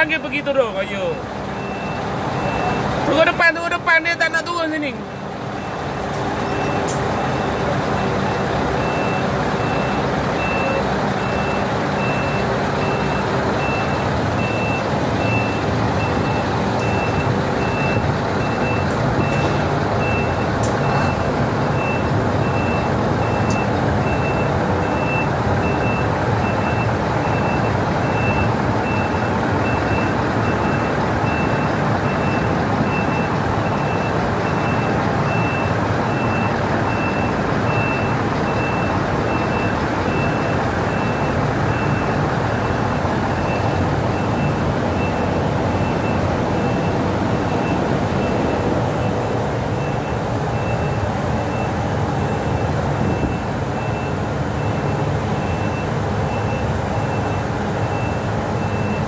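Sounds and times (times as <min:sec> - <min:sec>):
diesel engine running: 0:00.0 - 0:59.0
truck reversing alarm beeping: 0:00.0 - 0:59.0.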